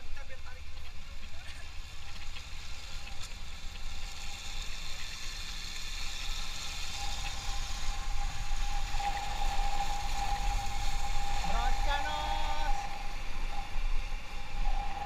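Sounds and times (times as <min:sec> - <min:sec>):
steady whine: 0:00.0 - 0:15.0.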